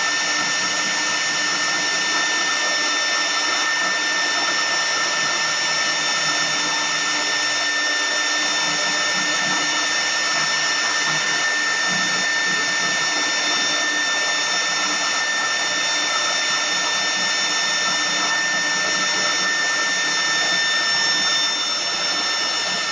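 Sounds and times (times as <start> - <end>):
wood router spindle whine: 0.0 - 22.9.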